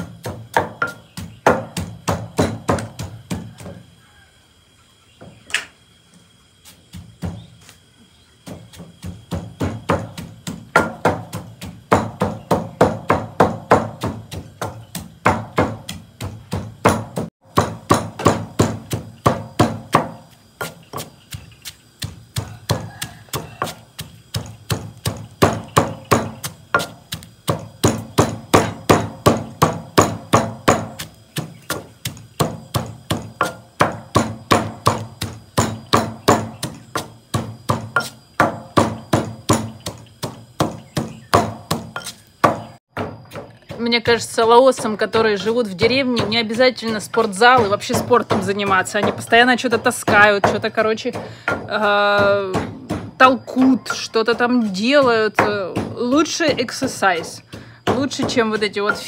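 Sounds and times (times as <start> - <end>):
pestle pounding in mortar: 0.0 - 3.9, 6.8 - 7.7, 8.4 - 59.0.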